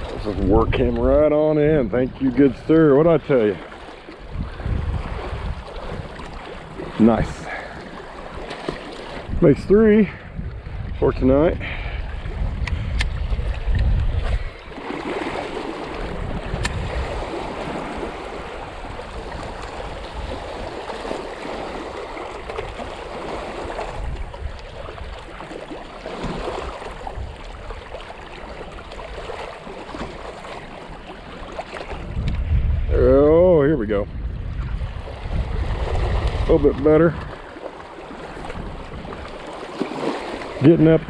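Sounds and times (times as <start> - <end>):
wind rumbling on microphone: 0.0 - 3.4, 4.1 - 8.4, 9.1 - 41.0
water lapping at shore: 0.0 - 41.0.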